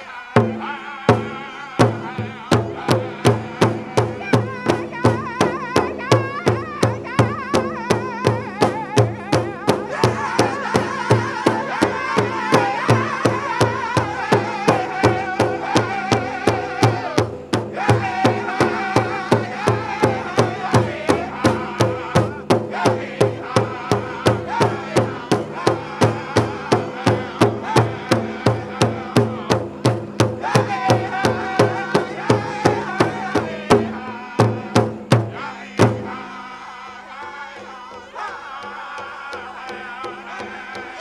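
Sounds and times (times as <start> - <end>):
group singing: 0.0 - 41.0
large drum beating steadily: 0.4 - 41.0.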